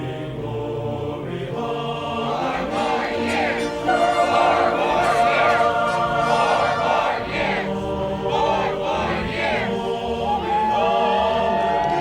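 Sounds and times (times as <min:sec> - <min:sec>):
choir singing sustained notes: 0:00.0 - 0:12.0
chordal musical backing: 0:00.0 - 0:12.0.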